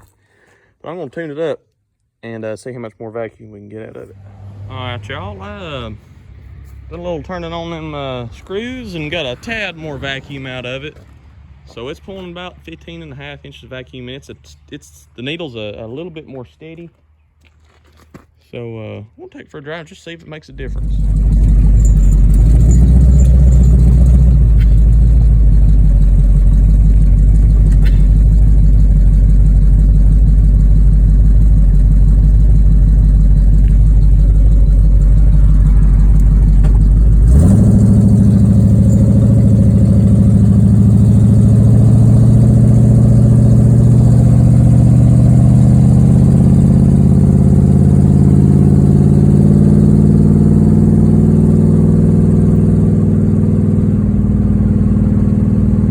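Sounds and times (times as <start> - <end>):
car engine rumbling: 3.4 - 16.9, 20.1 - 55.9.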